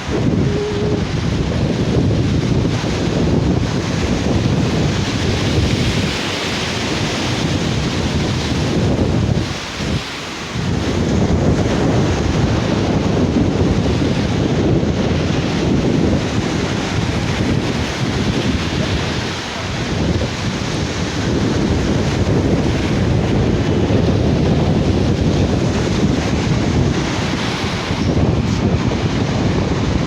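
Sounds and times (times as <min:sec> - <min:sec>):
surf washing on a beach: 0:00.0 - 0:30.0
wind buffeting microphone: 0:00.0 - 0:30.0.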